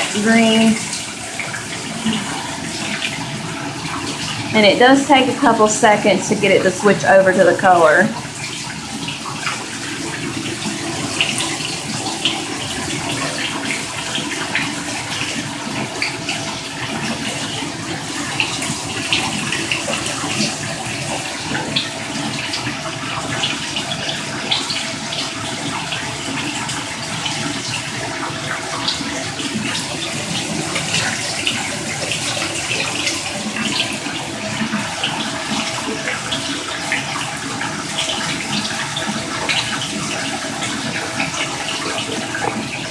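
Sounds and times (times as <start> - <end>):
shower water spraying: 0.0 - 42.9
water splashes: 0.0 - 42.9.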